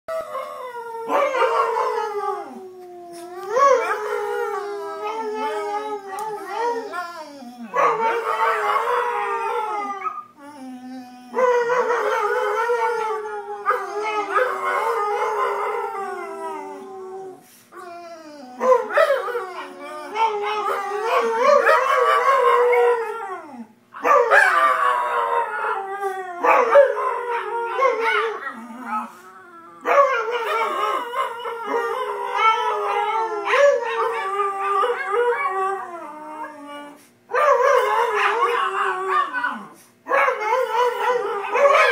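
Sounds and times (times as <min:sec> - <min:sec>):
dogs howling: 0:00.1 - 0:41.9.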